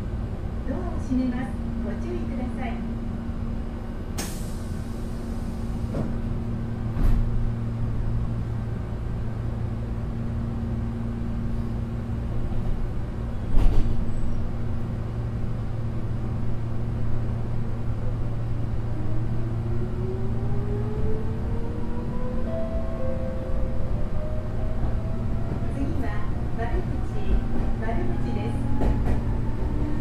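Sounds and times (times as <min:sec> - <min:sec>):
train interior low hum: 0:00.0 - 0:30.0.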